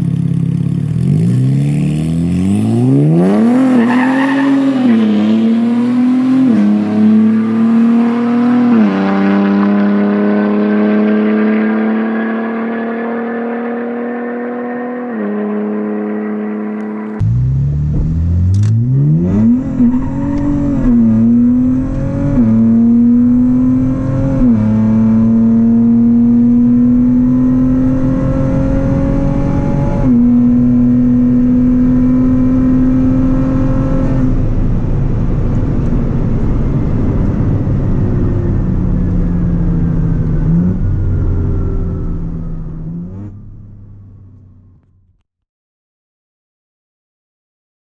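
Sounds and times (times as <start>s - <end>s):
car engine accelerating through gears: 0.8s - 45.1s.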